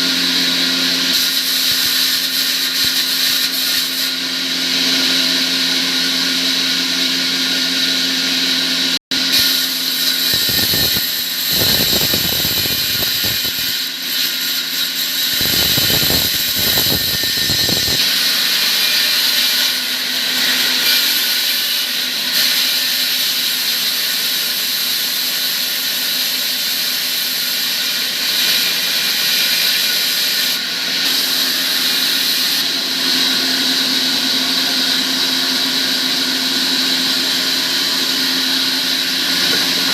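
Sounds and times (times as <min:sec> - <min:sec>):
electric tool whining: 0:00.0 - 0:39.9.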